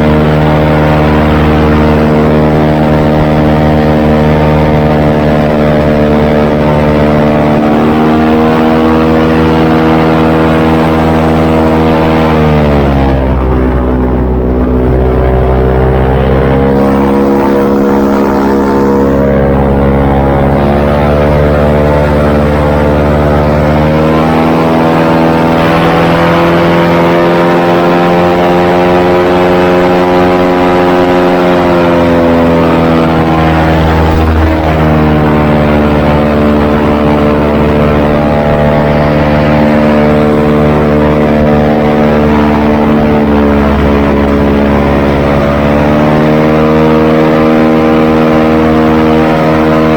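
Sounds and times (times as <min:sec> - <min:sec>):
airboat engine and propeller: 0:00.0 - 0:49.9.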